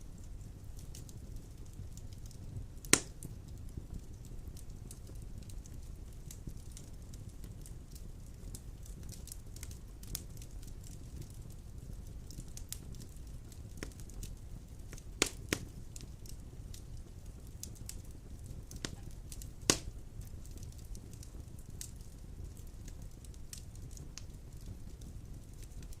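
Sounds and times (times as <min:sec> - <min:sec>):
fire crackling: 0:00.0 - 0:26.0
flames rumbling: 0:00.0 - 0:26.0
sharp pops from fire: 0:00.0 - 0:26.0.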